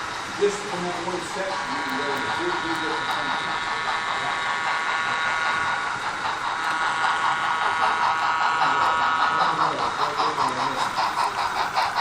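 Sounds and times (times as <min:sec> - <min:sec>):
model trains whining: 0:00.0 - 0:12.0
rhythmic beat of pulses: 0:00.0 - 0:12.0.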